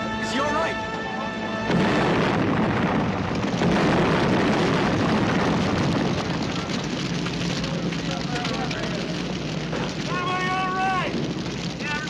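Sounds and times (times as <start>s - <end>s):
large explosion with fireball rush: 1.7s - 12.0s.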